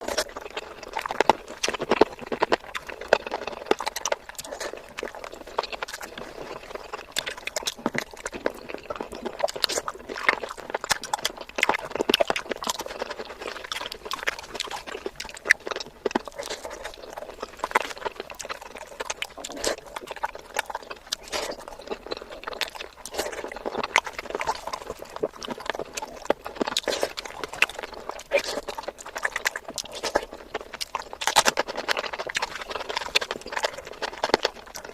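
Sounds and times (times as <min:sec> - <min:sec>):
wet chewing and lip smacks: 0:00.0 - 0:34.9.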